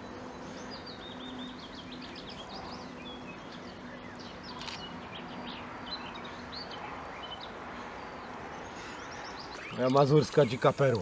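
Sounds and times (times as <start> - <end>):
birds chirping and whistling: 0.0 - 10.6
steady outdoor hiss: 0.0 - 11.0.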